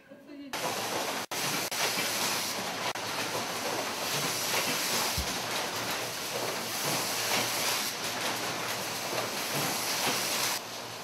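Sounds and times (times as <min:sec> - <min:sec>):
machinery and air handling hiss: 0:00.6 - 0:11.0.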